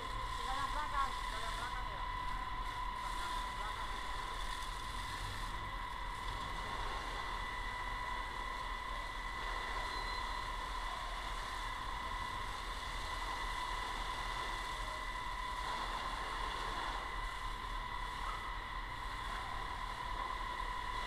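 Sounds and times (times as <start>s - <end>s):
fire hose jet spraying water: 0.0s - 18.3s
steady high whine: 0.0s - 21.0s.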